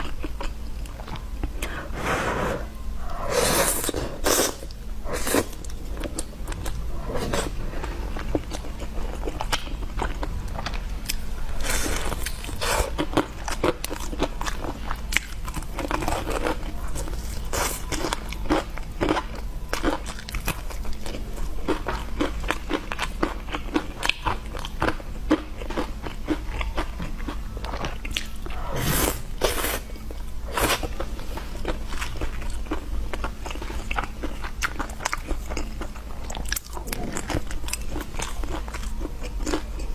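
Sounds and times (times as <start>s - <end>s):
chewing crunchy food: 0.0s - 1.8s, 3.0s - 39.9s.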